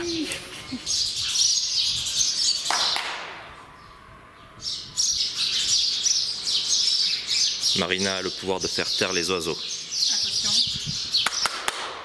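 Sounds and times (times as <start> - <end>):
sparrows chirping: 0.0 - 11.6.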